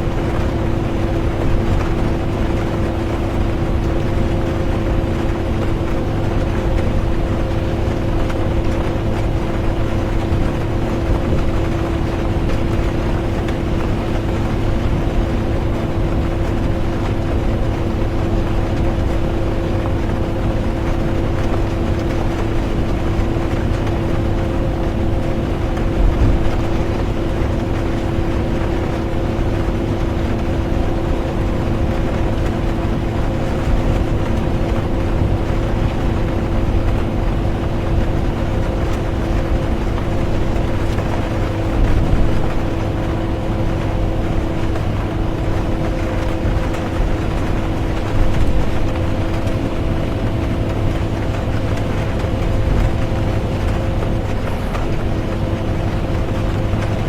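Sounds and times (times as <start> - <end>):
bus engine and road rumble: 0.0 - 57.0
constant hum: 0.0 - 57.0.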